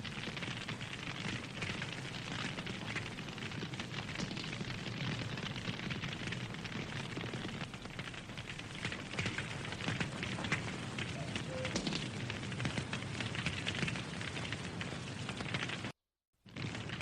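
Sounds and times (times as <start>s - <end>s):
campfire crackling and popping: 0.0s - 17.0s
low rumble of flames: 0.0s - 17.0s.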